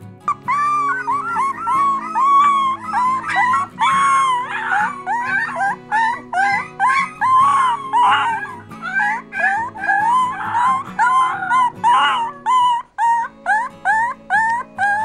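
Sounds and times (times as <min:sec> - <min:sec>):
soft background music: 0:00.0 - 0:15.0
puppy howling: 0:00.3 - 0:15.0.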